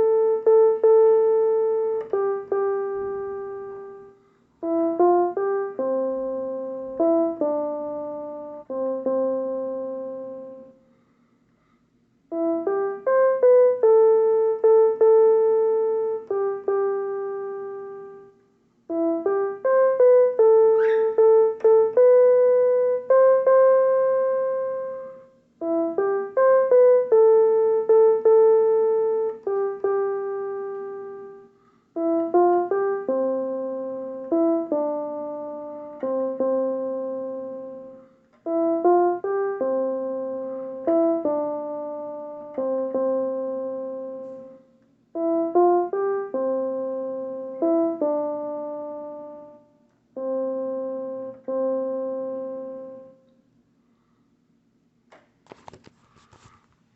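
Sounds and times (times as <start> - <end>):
slow piano melody: 0.0 - 10.9, 12.2 - 53.6.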